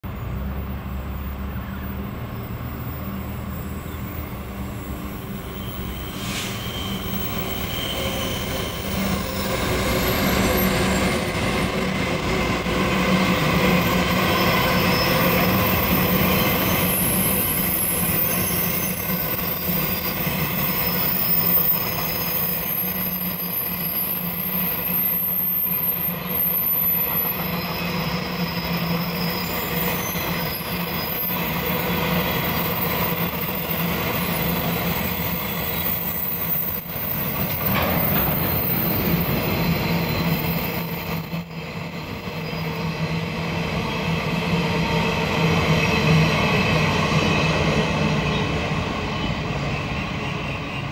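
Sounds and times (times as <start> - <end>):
high wheel squeal: 1.1 - 12.3, 13.1 - 43.2.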